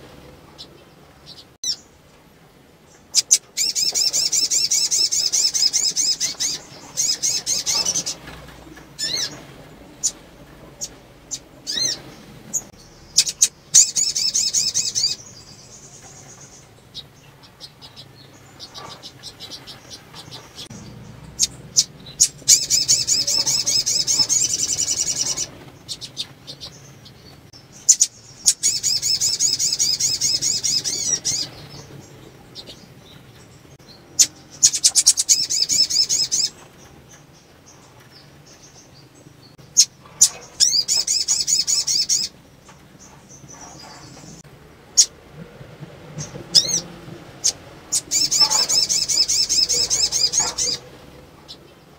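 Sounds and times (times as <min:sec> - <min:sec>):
bird twittering trill: 0:00.4 - 0:02.0, 0:02.9 - 0:45.1, 0:46.2 - 0:51.9.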